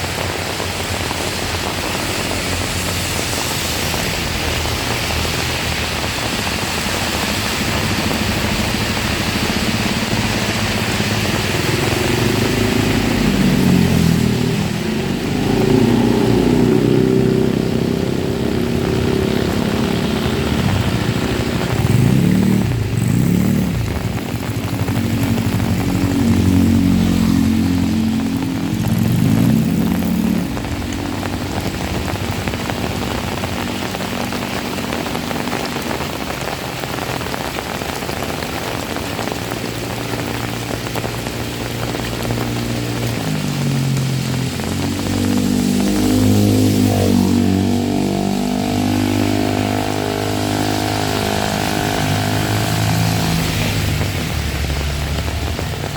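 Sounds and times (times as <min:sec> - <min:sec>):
heavy rain: 0:00.0 - 0:55.9
vehicle engine running: 0:00.0 - 0:55.9.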